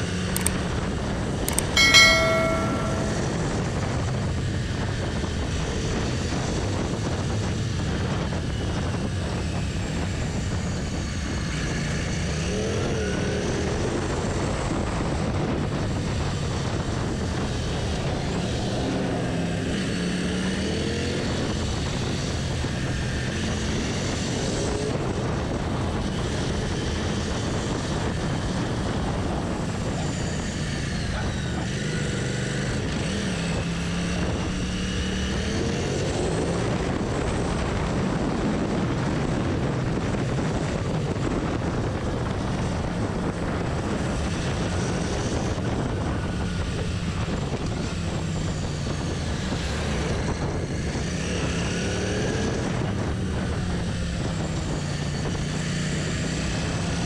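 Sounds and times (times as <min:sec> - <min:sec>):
motorcycle engine cruising: 0:07.3 - 0:57.0.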